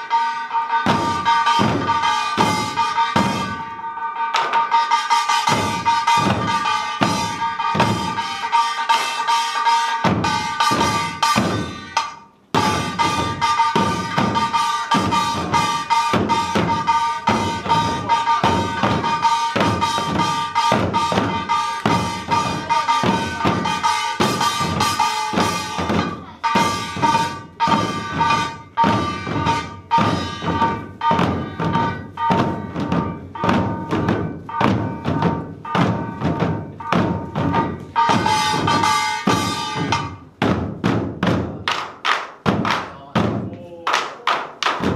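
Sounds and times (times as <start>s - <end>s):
barrel drums beating fast rhythm: 0.0s - 44.9s.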